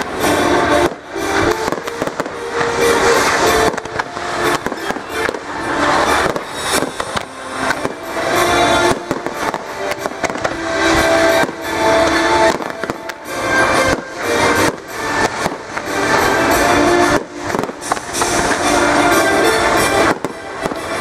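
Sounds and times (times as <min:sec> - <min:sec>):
fireworks bursting and crackling: 0:00.0 - 0:21.0
music playing: 0:00.0 - 0:21.0.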